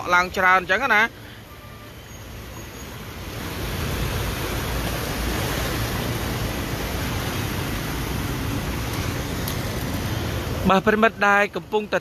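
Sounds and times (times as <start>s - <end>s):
floodwater rushing: 0.0s - 12.0s
wind: 0.0s - 12.0s.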